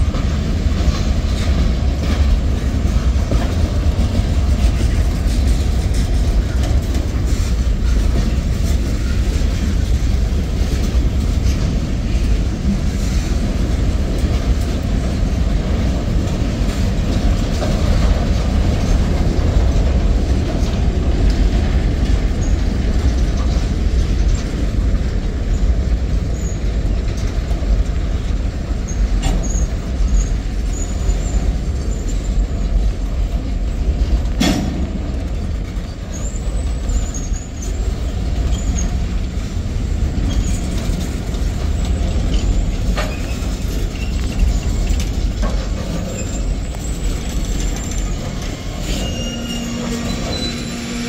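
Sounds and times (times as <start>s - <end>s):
steel wheels rumbling on rail: 0.0s - 51.0s.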